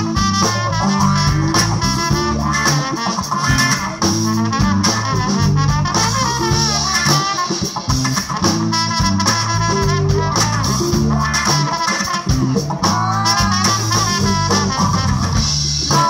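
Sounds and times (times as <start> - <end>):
drums: 0.0 - 16.0
electric bass: 0.0 - 16.0
horn section: 0.0 - 16.0.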